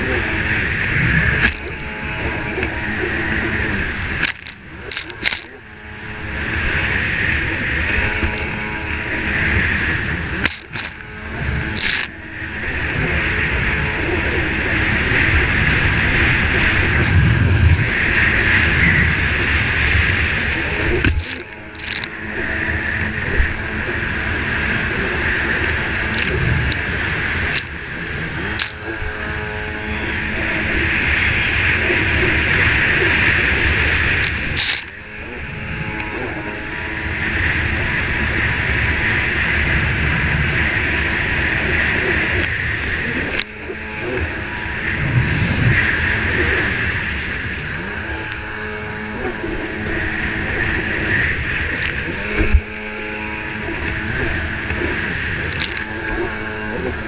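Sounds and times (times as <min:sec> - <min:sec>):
jet ski engine running hard: 0:00.0 - 0:57.0
rushing water: 0:00.0 - 0:57.0
wind noise: 0:00.0 - 0:57.0.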